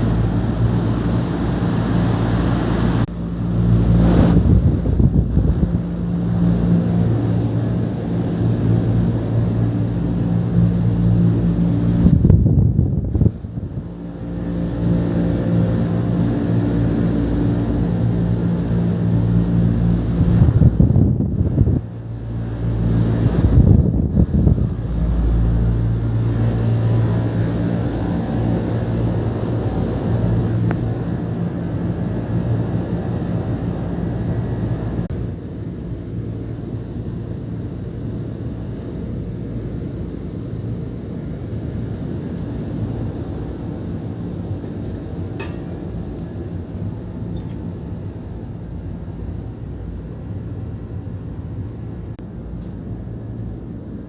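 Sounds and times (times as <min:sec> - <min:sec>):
air conditioner humming: 0:00.0 - 0:54.0
rumbling buffets: 0:00.0 - 0:54.0.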